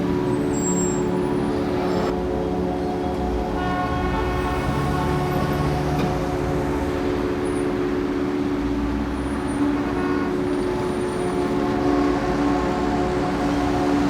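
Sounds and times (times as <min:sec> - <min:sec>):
city traffic hum: 0:00.0 - 0:14.0.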